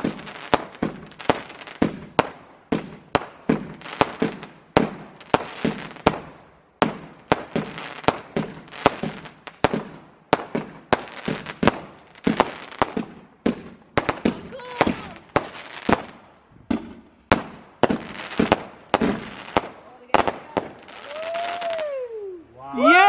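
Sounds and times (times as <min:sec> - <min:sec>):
fireworks barrage bangs: 0:00.0 - 0:22.0.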